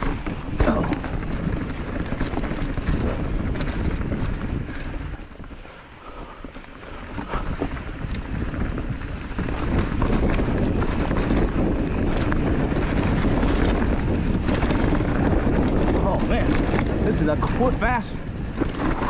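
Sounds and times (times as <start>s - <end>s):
mountain bike rolling on trail: 0.0s - 19.0s
wind buffeting the microphone: 0.0s - 19.0s.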